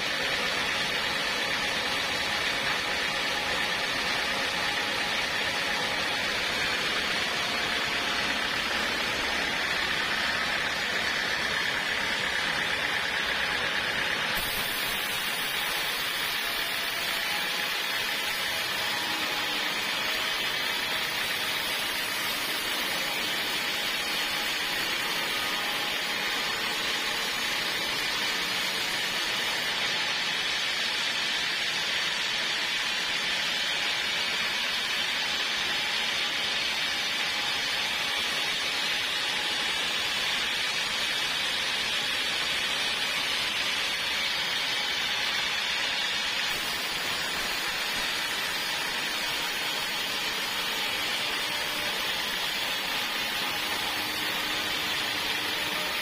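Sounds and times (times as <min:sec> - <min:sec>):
sawmill cutting timber: 0:00.0 - 0:56.0.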